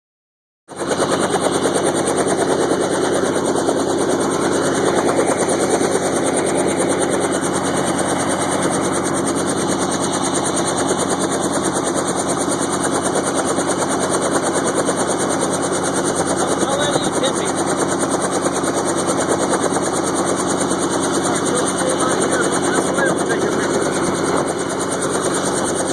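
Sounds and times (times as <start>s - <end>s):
helicopter rotor chop: 0.7s - 25.9s.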